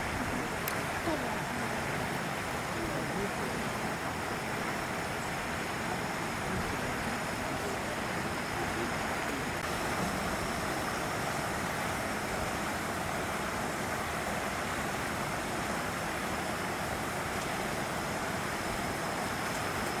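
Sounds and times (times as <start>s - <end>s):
rushing outdoor wash: 0.0s - 20.0s.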